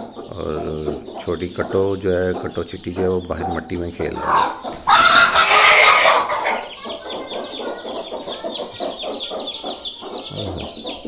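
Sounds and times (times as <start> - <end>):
chicks peeping: 0.0 - 11.0
hens clucking: 0.0 - 11.0.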